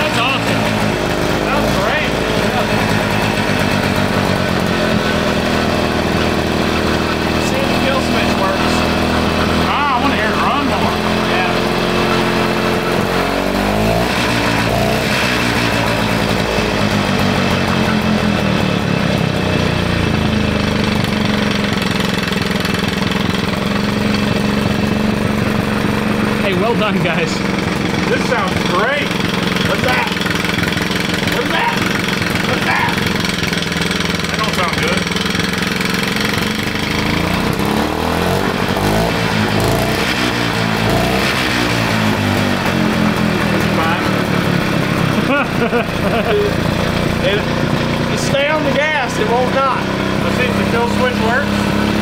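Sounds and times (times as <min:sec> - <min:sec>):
lawn mower engine running: 0:00.0 - 0:52.0
odd engine noise: 0:00.0 - 0:52.0.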